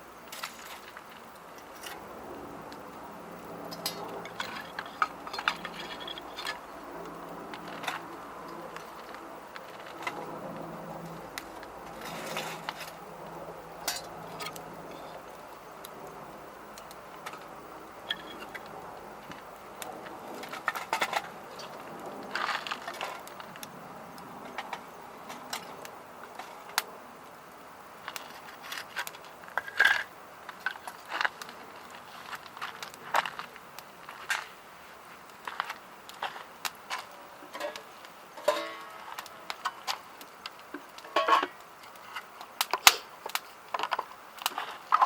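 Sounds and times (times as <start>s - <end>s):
fire crackling and popping: 0.0s - 45.0s
fire hiss: 0.0s - 45.0s.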